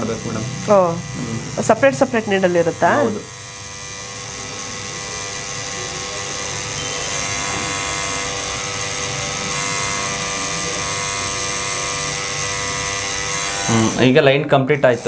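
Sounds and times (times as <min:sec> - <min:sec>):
tattoo machine buzzing: 0:00.0 - 0:15.0.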